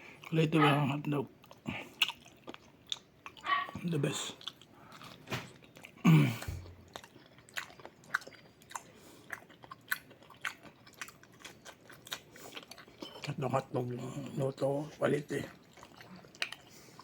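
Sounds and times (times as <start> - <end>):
person chewing with mouth open: 0.0 - 17.0.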